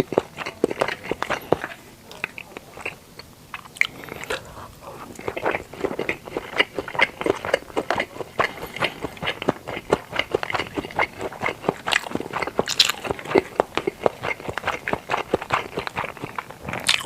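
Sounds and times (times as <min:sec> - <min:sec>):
person chewing: 0:00.0 - 0:17.0
wet mouth clicks: 0:00.0 - 0:17.0.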